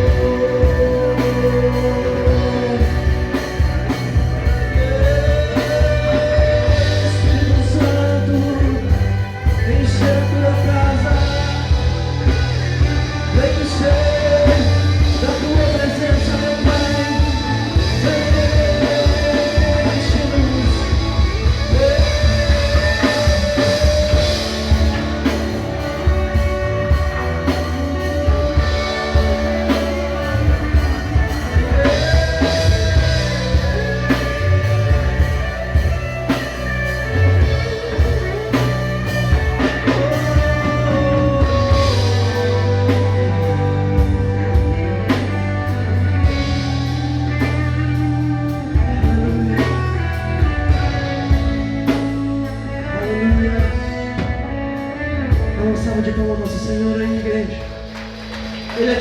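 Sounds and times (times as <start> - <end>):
drum kit: 0.0 - 59.0
guitar: 0.0 - 59.0
worship band playing slow song: 0.0 - 59.0.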